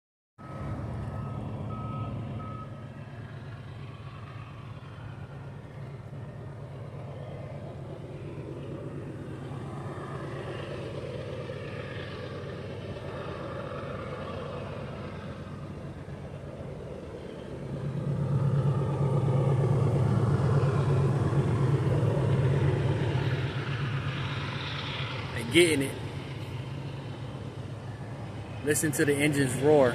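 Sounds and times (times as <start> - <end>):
diesel locomotive engines roaring: 0.4 - 29.9.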